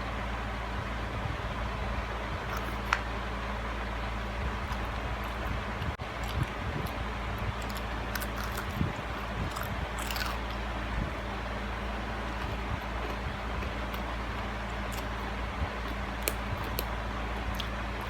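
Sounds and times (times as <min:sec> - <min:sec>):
steady low hum: 0:00.0 - 0:18.0
crunchy chewing: 0:02.4 - 0:03.2, 0:04.1 - 0:18.0.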